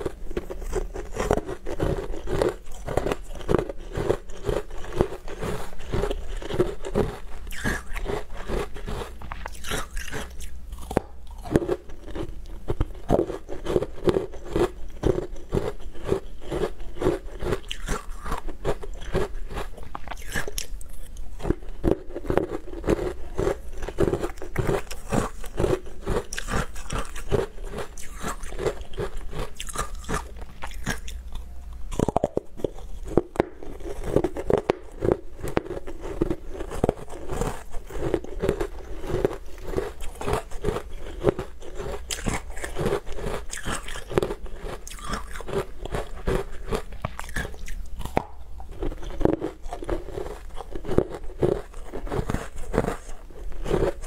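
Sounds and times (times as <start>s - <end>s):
crunching and chewing frozen food: 0.0s - 54.0s.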